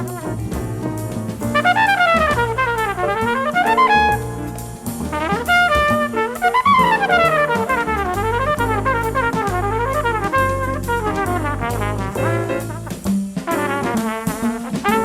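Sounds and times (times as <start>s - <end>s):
jazz music: 0.0s - 15.0s
trumpet playing quick runs: 0.0s - 15.0s.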